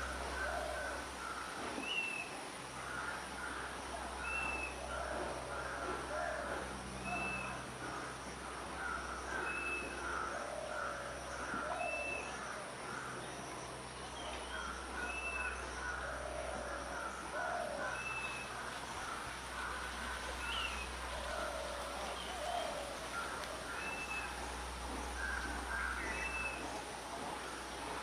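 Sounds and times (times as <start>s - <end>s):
chorus of lower bird calls: 0.0s - 28.0s.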